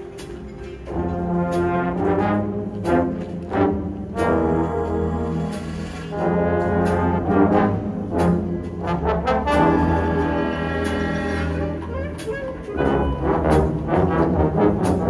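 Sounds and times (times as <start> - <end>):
percussion strikes: 0.0 - 15.0
sustained brass chords: 0.8 - 15.0.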